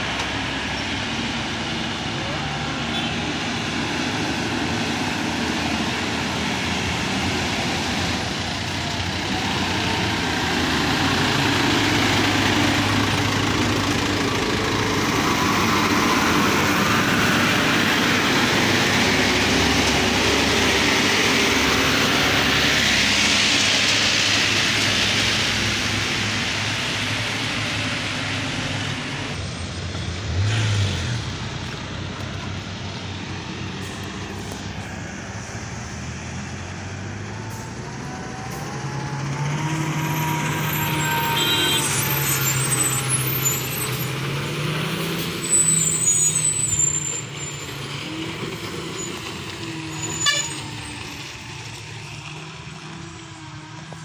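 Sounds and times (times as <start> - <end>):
lorry engines running: 0.0 - 54.0
tyre and road noise: 0.0 - 54.0.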